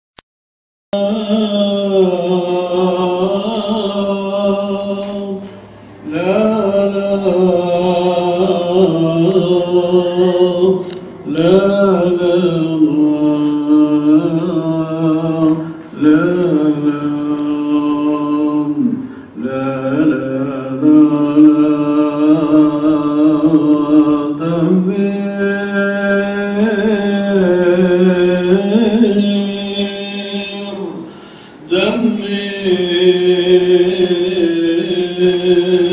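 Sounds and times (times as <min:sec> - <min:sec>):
man chanting: 0:01.0 - 0:35.9.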